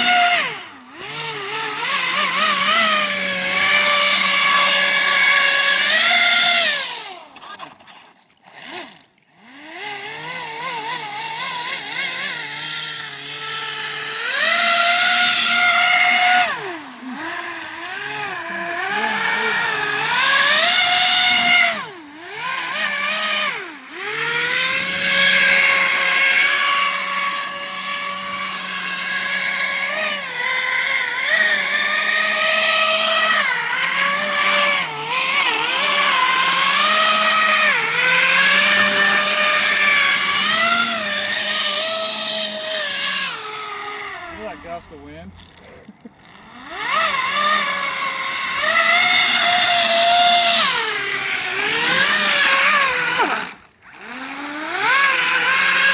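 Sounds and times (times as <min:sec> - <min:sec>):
electric motor propeller whine: 0:00.0 - 0:55.9.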